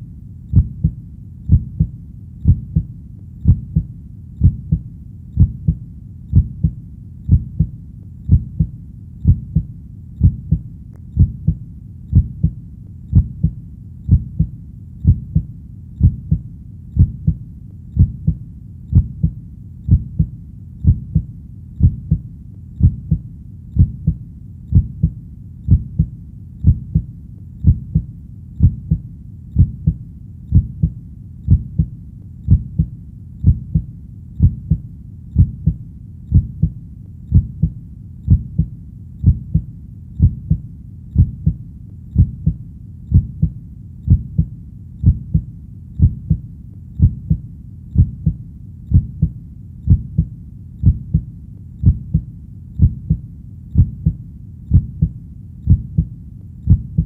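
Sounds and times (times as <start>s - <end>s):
heartbeat low double thump: 0.5s - 16.4s, 17.0s - 17.4s, 18.0s - 23.2s, 23.8s - 29.0s, 29.6s - 40.6s, 41.2s - 41.6s, 42.2s - 46.4s, 47.0s - 47.4s, 48.0s - 56.1s, 56.7s - 57.0s.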